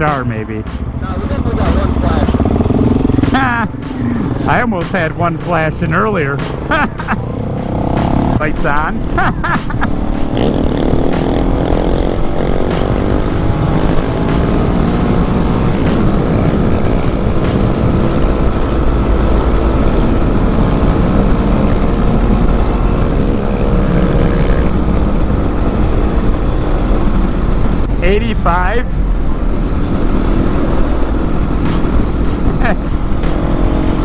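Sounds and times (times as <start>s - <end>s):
motorcycle engine running: 0.0s - 34.0s
wind rumble: 0.6s - 34.0s.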